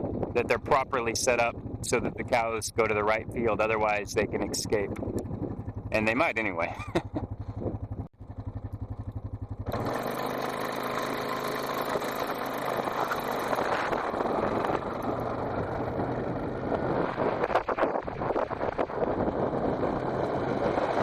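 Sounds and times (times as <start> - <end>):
vehicle engine driving: 0.0 - 21.0.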